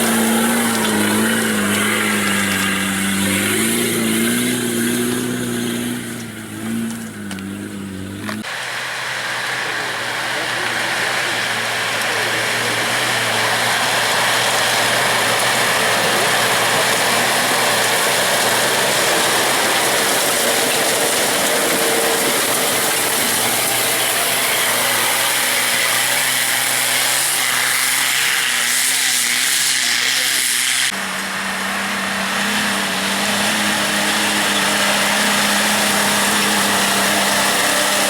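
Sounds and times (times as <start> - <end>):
off-road engine running hard: 0.0 - 38.0.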